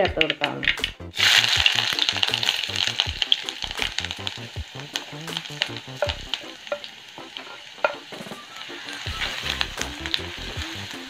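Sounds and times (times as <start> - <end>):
sharp crackles and pops: 0.0 - 11.0
ginger sizzling in hot oil: 0.5 - 11.0.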